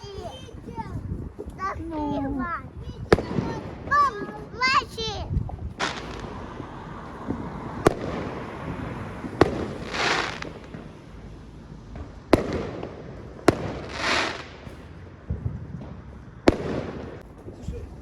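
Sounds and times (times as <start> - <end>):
firework bangs: 3.0 - 18.0
firework crackling: 3.0 - 18.0.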